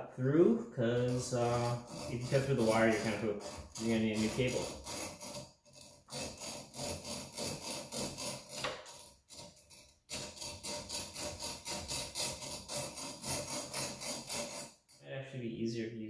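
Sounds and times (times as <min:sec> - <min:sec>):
hacksaw rasping through metal: 0:00.9 - 0:15.0.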